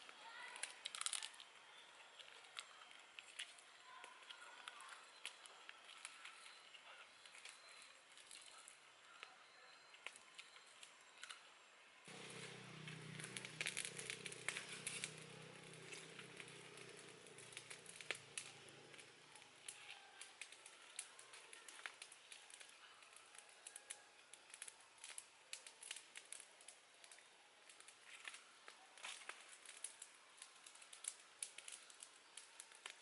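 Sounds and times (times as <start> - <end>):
wood fire crackling and popping: 0.0 - 9.3, 12.1 - 33.0.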